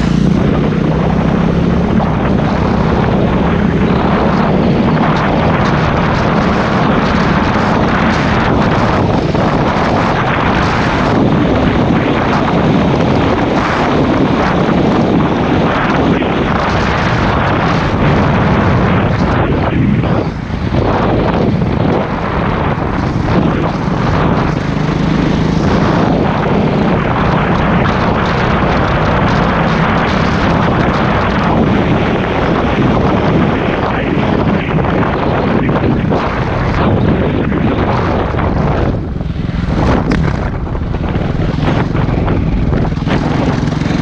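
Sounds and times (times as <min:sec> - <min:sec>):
motorcycle engine running: 0:00.0 - 0:44.0
wind noise on microphone: 0:00.0 - 0:44.0.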